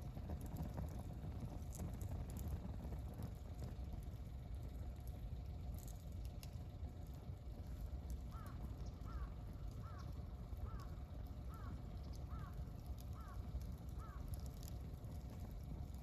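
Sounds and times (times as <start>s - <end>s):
campfire rumbling and crackling: 0.0s - 16.0s.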